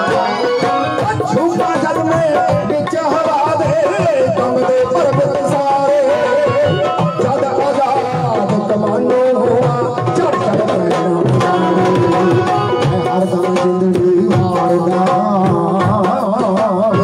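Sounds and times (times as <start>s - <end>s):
hand drum beat: 0.0s - 17.0s
keyboard melody: 0.0s - 17.0s
plucked string instrument: 0.0s - 17.0s.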